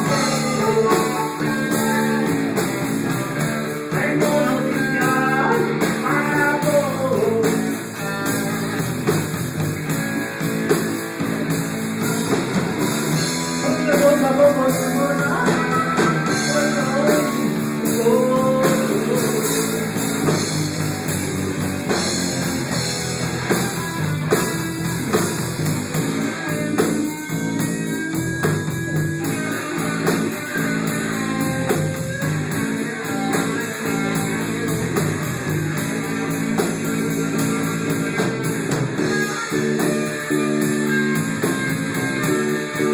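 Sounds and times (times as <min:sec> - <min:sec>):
bass: 0:00.0 - 0:42.9
electric guitar melody: 0:00.0 - 0:42.9
steady drum beat: 0:00.0 - 0:42.9.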